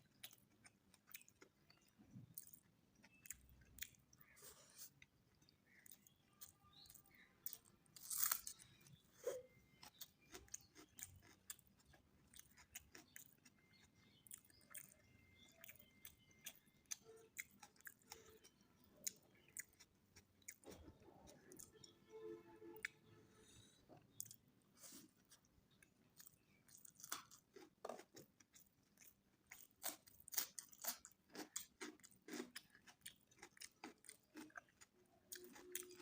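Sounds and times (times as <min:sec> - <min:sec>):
close-up chewing: 0:00.0 - 0:21.9, 0:24.1 - 0:36.0.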